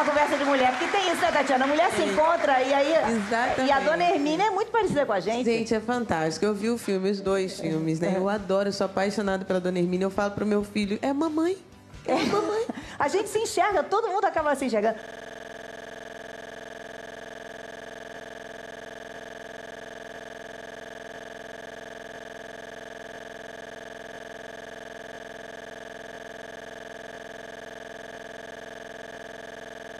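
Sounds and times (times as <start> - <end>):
steady multi-tone hum: 0.0 - 29.9.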